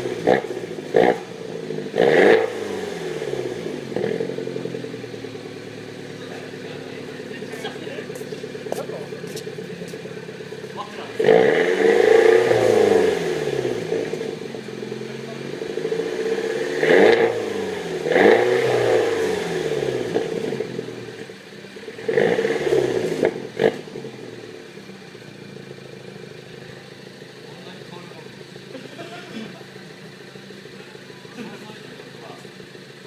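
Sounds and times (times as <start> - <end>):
car engine idling: 0.0 - 33.0
car exhaust revving: 0.0 - 33.0
exhaust crack: 0.0 - 33.0.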